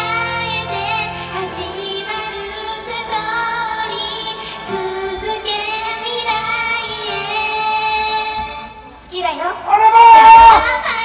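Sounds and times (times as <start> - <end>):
girls singing: 0.0 - 8.7, 10.4 - 11.0
pop backing track: 0.0 - 9.1.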